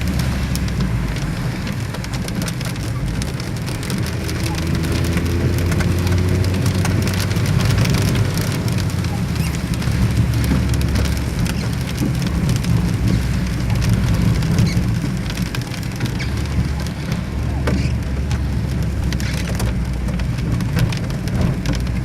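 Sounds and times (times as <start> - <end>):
rain patter: 0.0 - 22.0.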